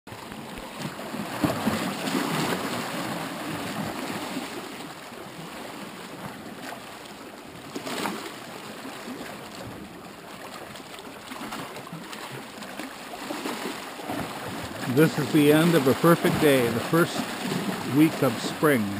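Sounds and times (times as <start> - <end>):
waves lapping against rocks: 0.1 - 18.9.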